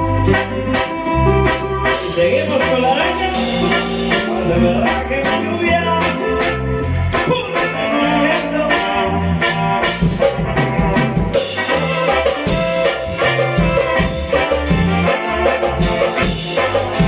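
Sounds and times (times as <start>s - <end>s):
bass line: 0.0s - 17.0s
brass: 0.0s - 17.0s
drum kit beat: 0.0s - 17.0s.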